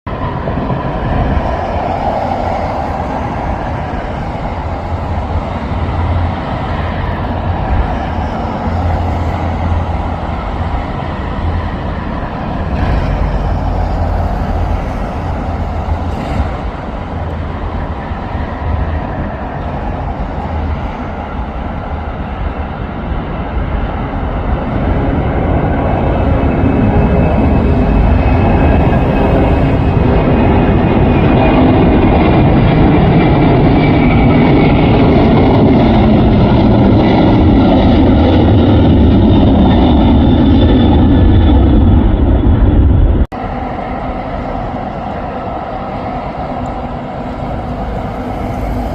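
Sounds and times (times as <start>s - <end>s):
jet engines roaring: 0.1s - 48.9s.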